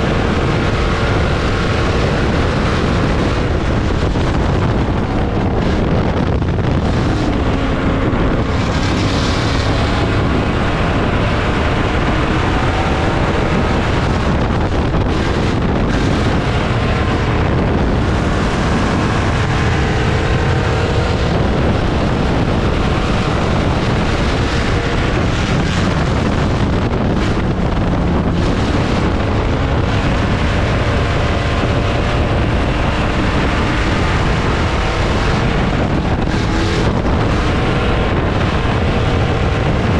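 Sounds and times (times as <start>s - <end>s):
race car engines: 0.0s - 39.9s
wind buffeting microphone: 0.0s - 39.9s.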